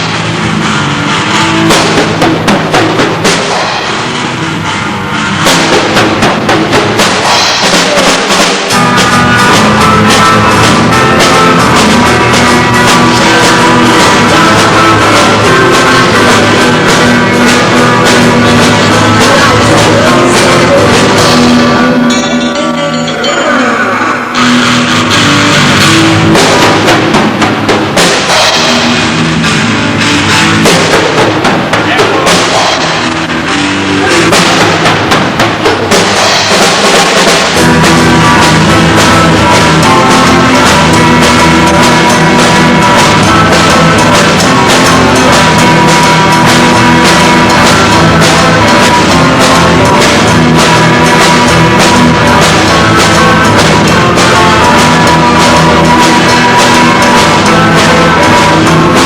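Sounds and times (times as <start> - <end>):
amplified instruments: 0.0 - 59.0
drum kit: 0.0 - 59.0
rock band playing live: 0.0 - 59.0.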